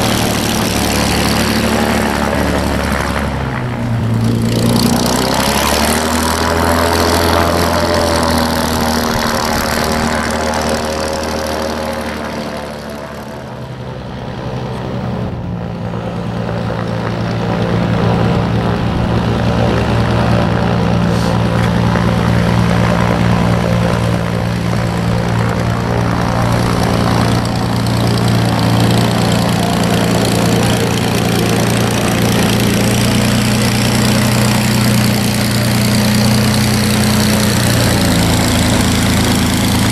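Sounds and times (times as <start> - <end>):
propeller plane engine: 0.0 - 39.9.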